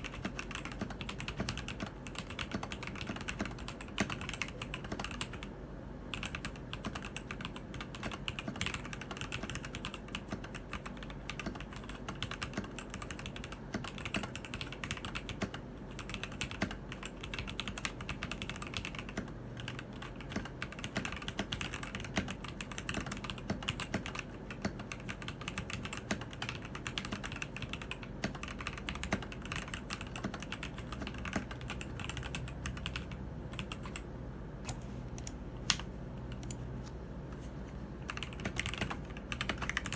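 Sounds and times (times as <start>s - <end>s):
mechanical keyboard typing: 0.0s - 36.6s, 38.0s - 39.9s.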